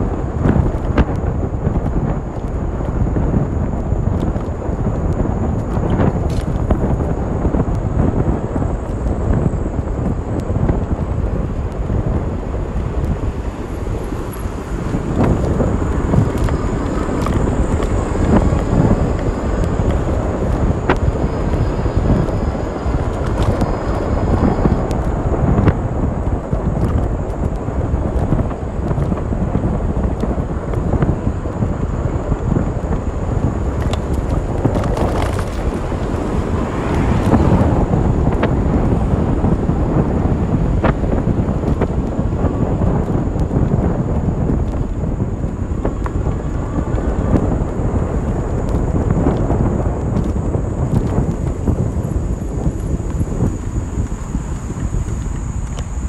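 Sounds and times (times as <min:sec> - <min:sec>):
tyres rumbling on paved path: 0:00.0 - 0:56.0
wind buffeting microphone: 0:00.0 - 0:56.0.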